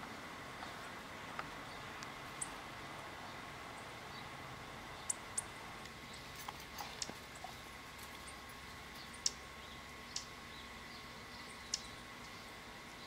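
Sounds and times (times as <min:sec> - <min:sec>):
faint hum and hiss: 0:00.0 - 0:13.0
small birds chipping: 0:00.0 - 0:13.0.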